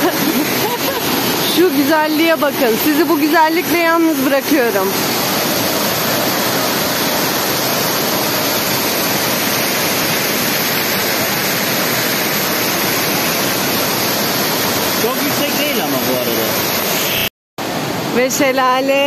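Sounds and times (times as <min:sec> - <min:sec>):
waterfall rushing: 0:00.0 - 0:18.3.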